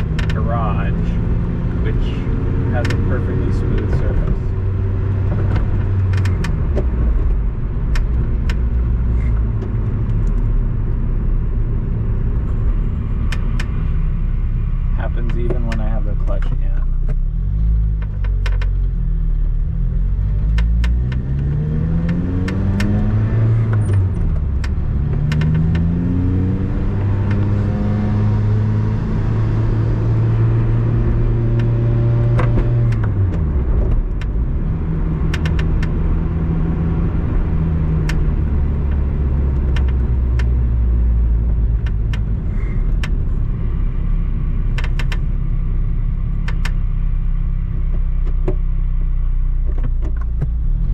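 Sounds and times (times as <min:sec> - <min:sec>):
sports car engine accelerating: 0:00.0 - 0:50.9.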